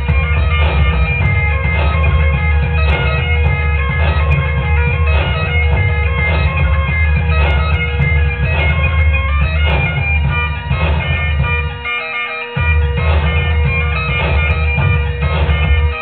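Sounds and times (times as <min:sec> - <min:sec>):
bagpipes playing melody: 0:00.0 - 0:16.0
drums: 0:00.0 - 0:16.0
guitar: 0:00.0 - 0:16.0.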